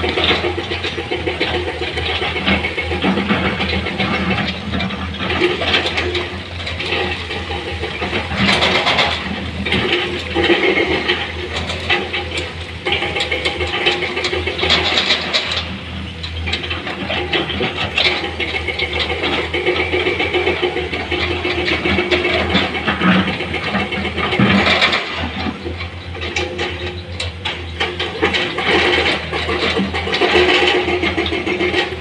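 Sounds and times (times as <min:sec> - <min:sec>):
diesel machinery humming: 0:00.0 - 0:32.0.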